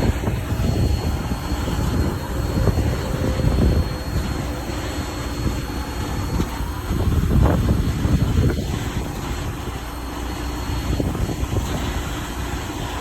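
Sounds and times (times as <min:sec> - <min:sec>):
engine machinery rumbling: 0:00.0 - 0:13.0
faint high whine: 0:00.0 - 0:13.0.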